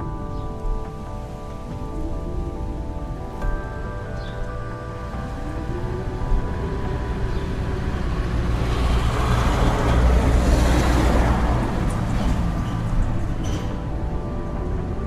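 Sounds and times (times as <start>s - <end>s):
blizzard wind with deep rumble: 0.0s - 15.0s.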